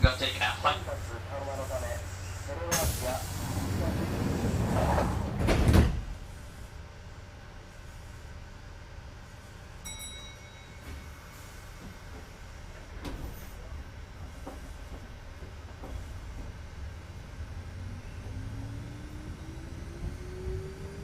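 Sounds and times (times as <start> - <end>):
low rumble of train equipment: 0.0 - 21.0.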